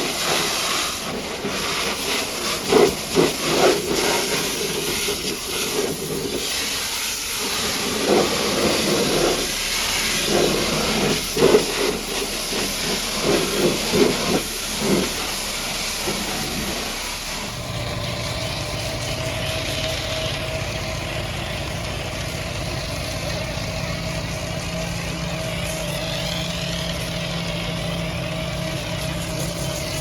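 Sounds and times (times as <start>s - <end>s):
pressure washer jet hissing: 0.0s - 30.0s.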